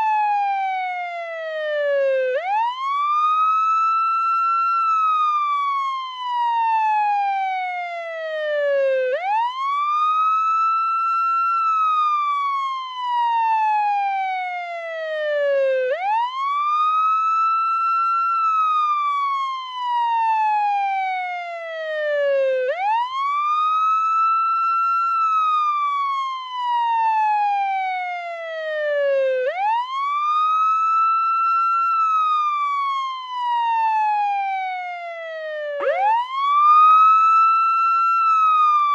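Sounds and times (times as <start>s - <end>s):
ambulance wail siren: 0.0s - 38.9s.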